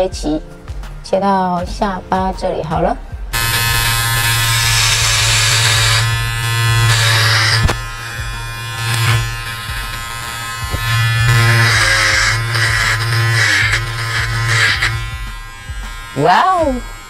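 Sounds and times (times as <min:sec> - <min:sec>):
electric hair clipper buzzing: 0:03.3 - 0:17.0.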